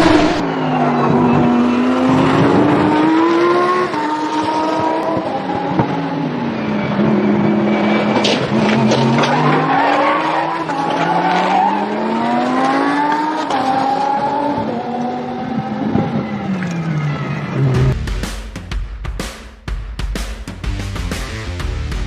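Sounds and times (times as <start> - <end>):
racing engine accelerating: 0.0 - 18.0.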